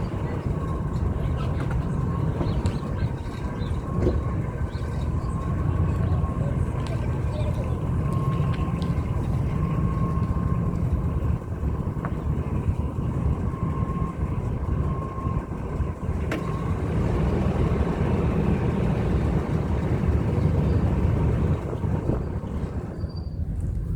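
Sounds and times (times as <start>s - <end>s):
truck engine rumble: 0.0s - 23.9s.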